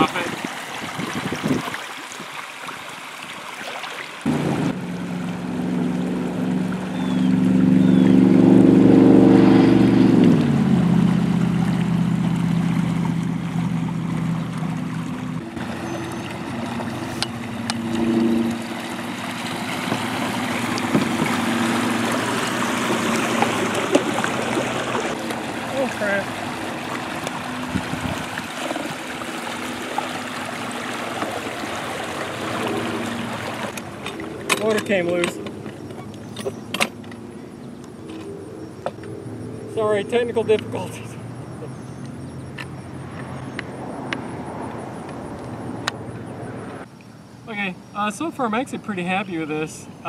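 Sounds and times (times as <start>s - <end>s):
churning water: 0.0s - 46.9s.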